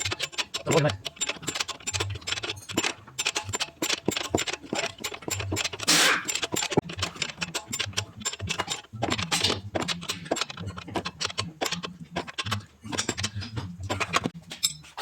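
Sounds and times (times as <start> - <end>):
hand tools clicking and rattling: 0.0 - 15.0.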